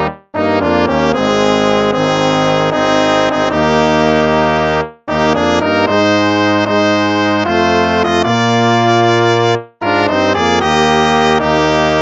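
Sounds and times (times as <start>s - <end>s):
instrumental hymn music: 0.0s - 12.0s.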